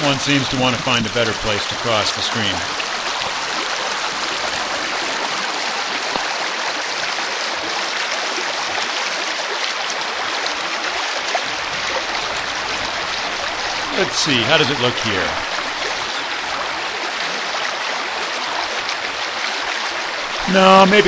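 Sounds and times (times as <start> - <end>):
stream running over stones: 0.0 - 21.0.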